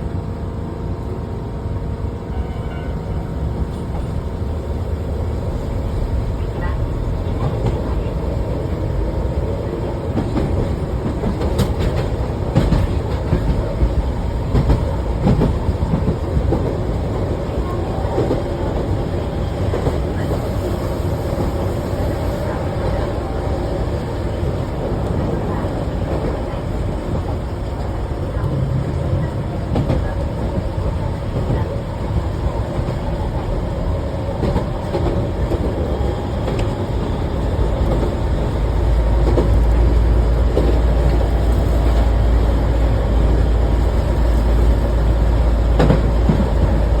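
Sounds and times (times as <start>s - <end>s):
electric train rumbling on rails: 0.0s - 47.0s
rail clicks: 5.4s - 47.0s.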